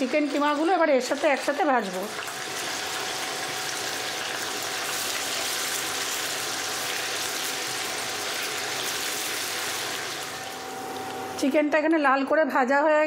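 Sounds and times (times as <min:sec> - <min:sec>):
chicken sizzling in oil: 0:00.0 - 0:11.4.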